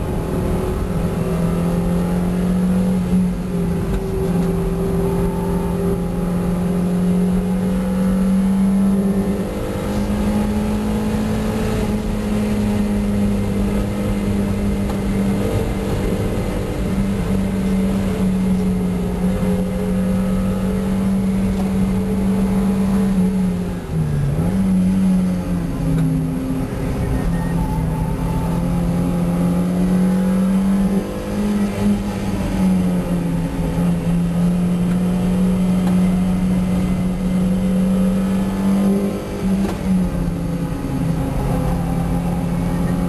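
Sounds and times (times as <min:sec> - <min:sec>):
car engine running at high revs: 0:00.0 - 0:43.0.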